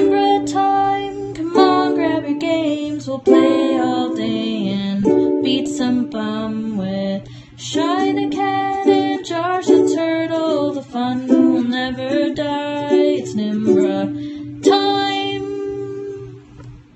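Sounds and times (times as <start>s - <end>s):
plucked strings: 0.0s - 7.1s, 7.7s - 16.8s
person singing upbeat tune: 0.0s - 16.5s.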